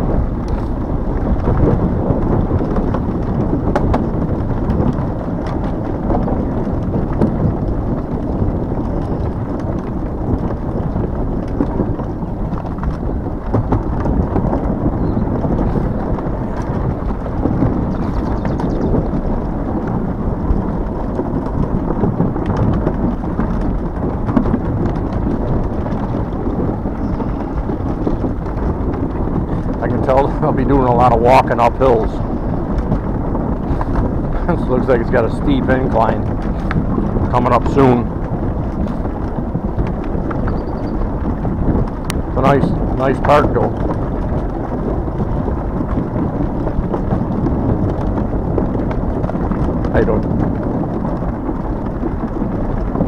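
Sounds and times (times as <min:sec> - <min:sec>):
electric scooter rolling on rough path: 0:00.0 - 0:53.0
small knocks and rattles: 0:00.0 - 0:53.0
wind buffeting microphone: 0:00.0 - 0:53.0.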